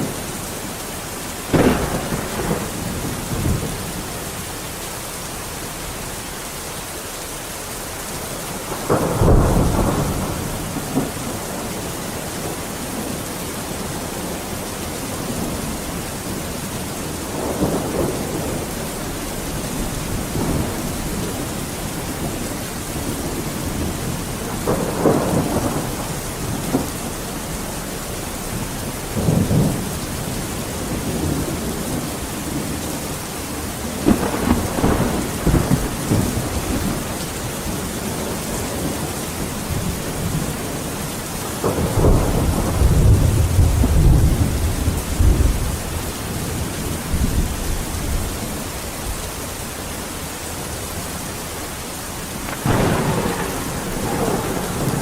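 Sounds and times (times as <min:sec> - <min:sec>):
steady rain: 0:00.0 - 0:55.0
rolling thunder: 0:01.5 - 0:04.7, 0:08.5 - 0:48.4, 0:52.3 - 0:55.0.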